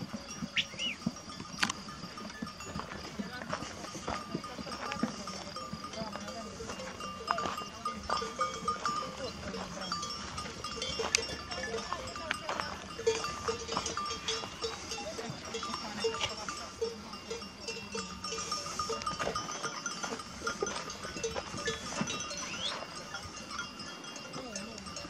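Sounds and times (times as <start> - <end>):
sheep bells clinking: 0.0 - 25.0.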